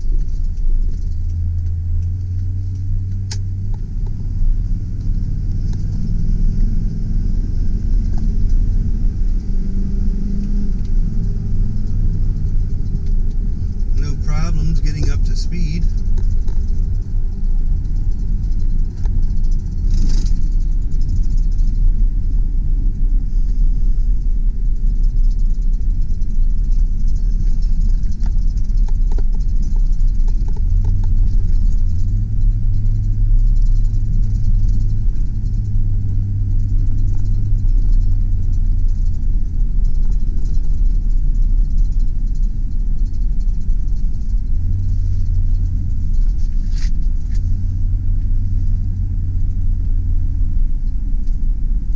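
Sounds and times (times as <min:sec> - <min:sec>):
pickup engine and road rumble: 0:00.0 - 0:51.9.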